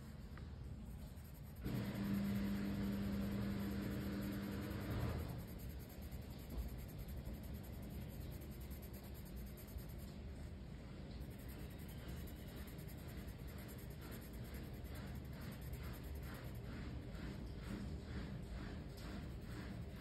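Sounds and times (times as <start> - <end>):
colored pencil scratching on paper: 0.0 - 20.0.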